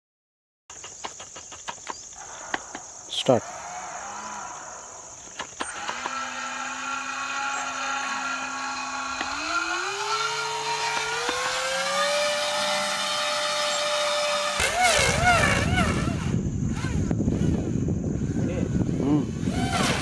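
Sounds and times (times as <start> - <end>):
small electric motors whining: 1.7 - 20.0.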